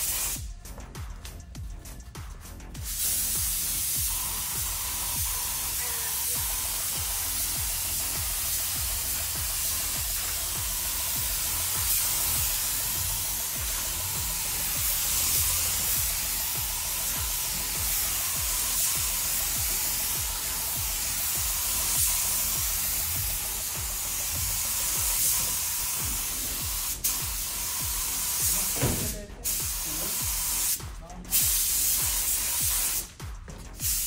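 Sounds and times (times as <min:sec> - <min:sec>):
paint spray gun hissing: 0:00.0 - 0:00.5, 0:02.8 - 0:33.2, 0:33.8 - 0:34.0
background music with steady beat: 0:00.0 - 0:34.0.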